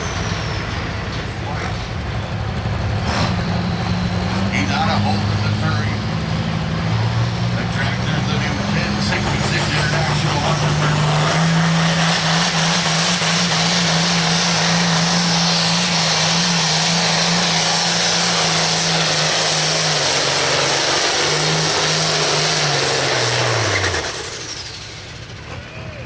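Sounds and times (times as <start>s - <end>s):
tractor diesel engine at full throttle: 0.0s - 26.0s.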